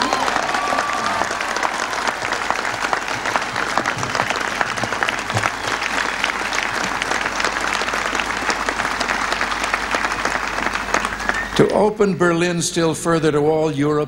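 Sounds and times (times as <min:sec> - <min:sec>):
crowd cheering: 0:00.0 - 0:12.1
crowd clapping: 0:00.0 - 0:12.1.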